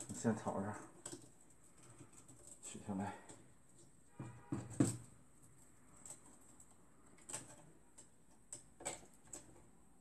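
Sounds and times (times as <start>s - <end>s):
hands clicking and tapping on plastic: 0.0s - 9.8s.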